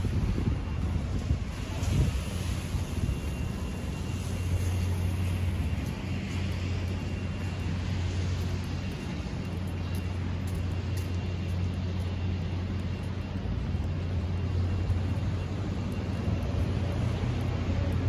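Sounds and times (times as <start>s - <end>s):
city street traffic: 0.0s - 18.0s
constant low hum: 0.0s - 18.0s.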